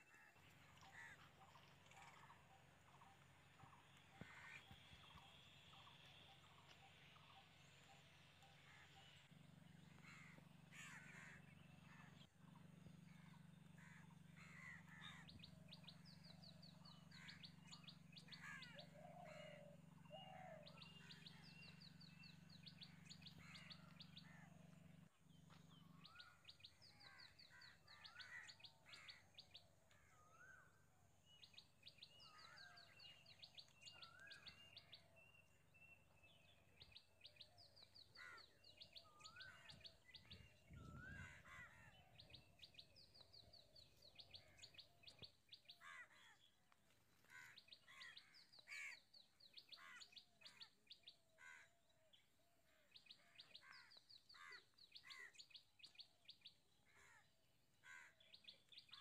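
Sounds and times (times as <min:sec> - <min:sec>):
birds chirping: 0:00.0 - 0:51.6.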